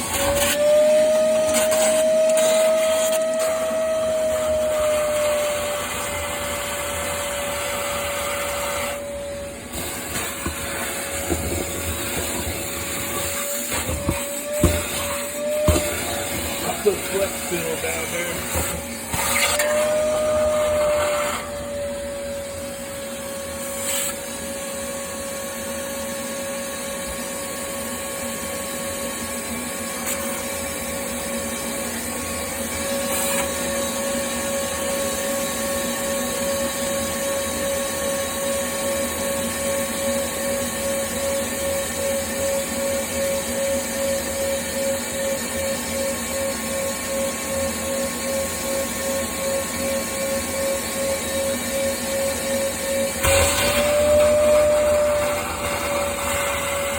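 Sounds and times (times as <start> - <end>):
electric motor whine: 0.0 - 37.8, 39.9 - 56.9.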